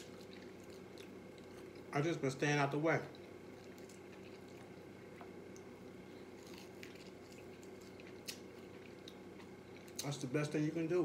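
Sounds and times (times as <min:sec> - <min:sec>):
person chewing and lip-smacking: 0:00.0 - 0:01.9, 0:03.0 - 0:10.1
low room hum: 0:00.0 - 0:11.0.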